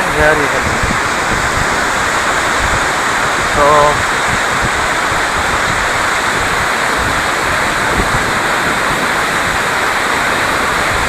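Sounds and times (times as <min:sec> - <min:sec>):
waterfall roaring: 0:00.0 - 0:11.0
wind buffeting microphone: 0:00.0 - 0:11.0.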